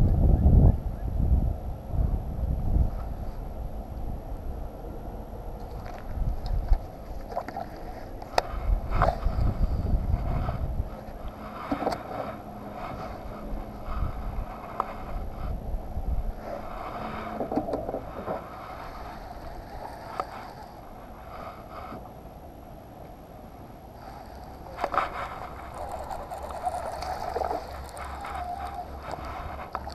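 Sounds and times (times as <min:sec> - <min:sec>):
faint steady hum: 0:00.0 - 0:29.9
wind rumbling on microphone: 0:00.0 - 0:29.9.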